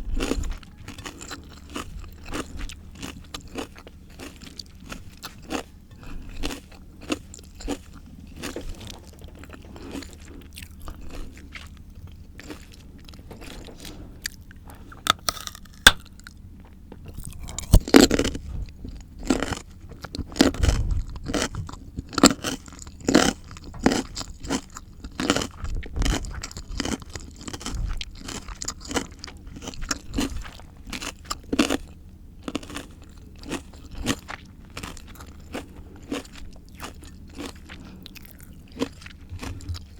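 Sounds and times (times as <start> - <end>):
crunching and chewing fruit: 0.0 - 39.9.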